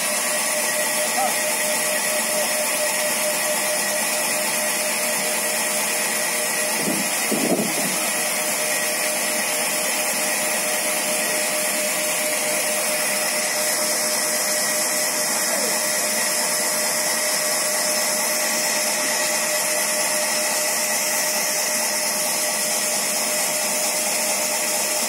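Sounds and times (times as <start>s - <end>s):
band saw cutting log: 0.0s - 25.0s.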